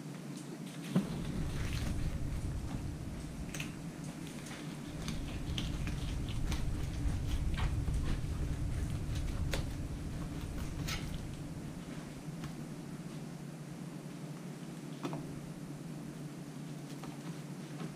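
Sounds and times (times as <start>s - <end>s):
steady low hum: 0.8s - 17.6s.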